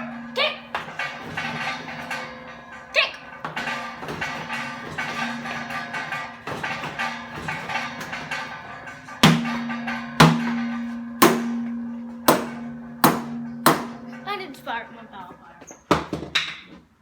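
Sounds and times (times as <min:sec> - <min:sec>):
metal tank struck and ringing: 0:00.0 - 0:16.6.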